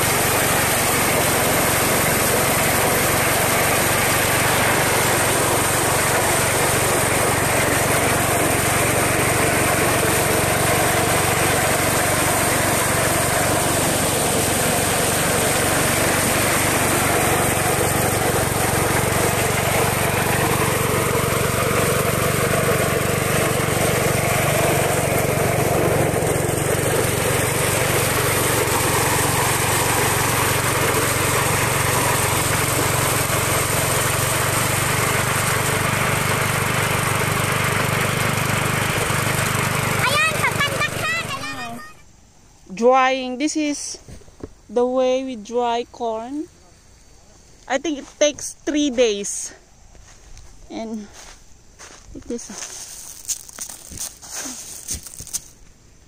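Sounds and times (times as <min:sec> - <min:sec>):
small engine running: 0:00.0 - 0:42.0, 0:52.2 - 0:55.6.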